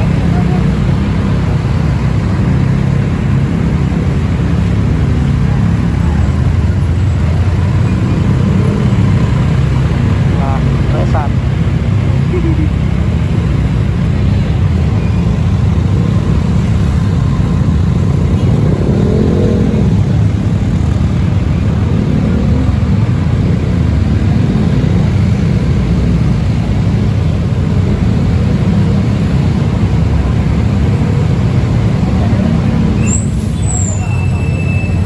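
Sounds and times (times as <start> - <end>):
road and wind noise: 0.0 - 35.0
vehicle engine rumble: 0.0 - 35.0.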